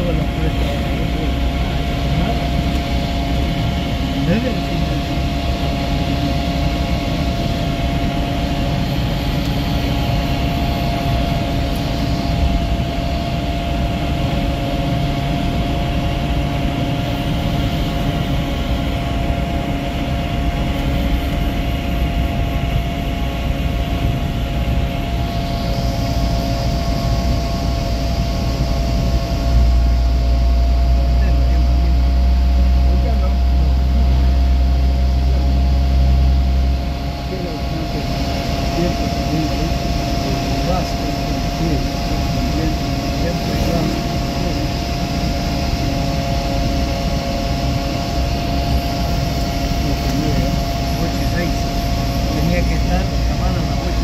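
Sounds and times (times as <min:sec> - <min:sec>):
thin steady whine: 0:00.0 - 0:54.0
vehicle engine and road rumble: 0:00.0 - 0:54.0.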